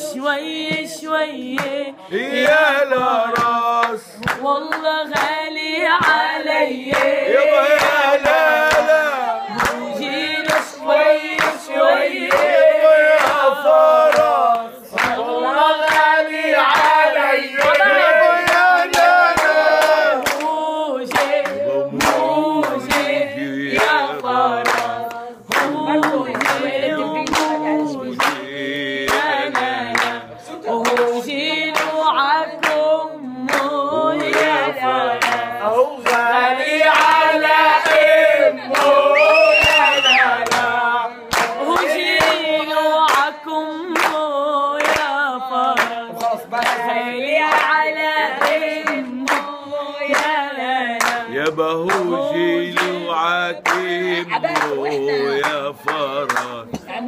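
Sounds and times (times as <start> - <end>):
man and woman singing: 0.0 - 57.0
hand clapping: 0.6 - 38.1, 38.7 - 53.0, 53.6 - 57.0.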